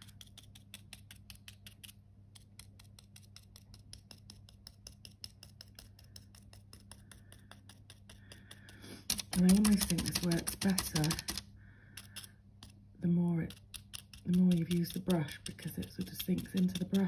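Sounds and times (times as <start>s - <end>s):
steady low hum: 0.0s - 17.0s
brush dabbing taps: 2.4s - 12.8s, 13.4s - 17.0s.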